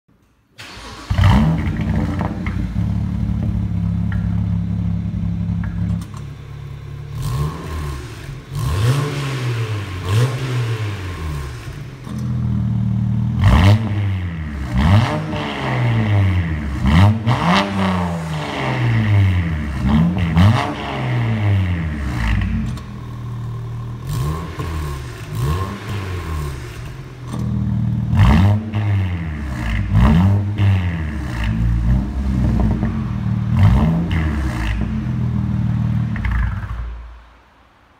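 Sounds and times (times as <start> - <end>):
car engine idling and revving: 0.6 - 37.4.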